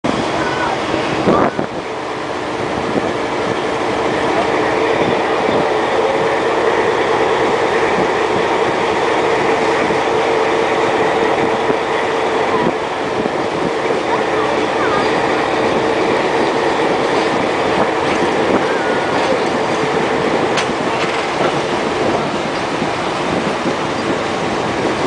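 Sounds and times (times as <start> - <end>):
diesel locomotive engine running hard: 0.0 - 25.0.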